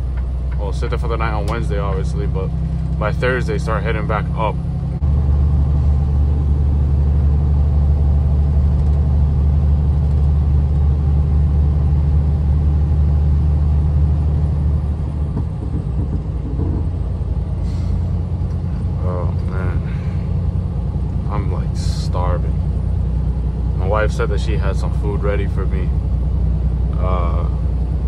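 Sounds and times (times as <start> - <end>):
truck engine and road noise: 0.0 - 28.0.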